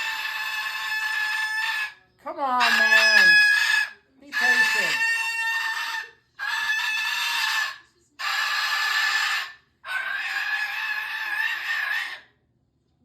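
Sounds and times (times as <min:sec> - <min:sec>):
parrot screaming: 0:00.0 - 0:02.0, 0:02.6 - 0:12.3.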